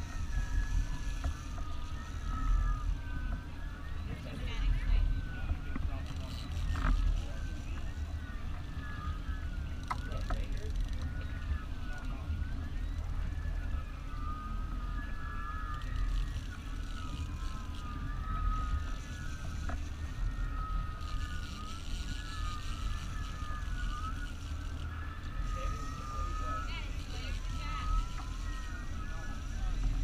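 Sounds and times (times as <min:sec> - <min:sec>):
boat engine rumble: 0:00.0 - 0:30.0
wavering high whine: 0:00.0 - 0:30.0.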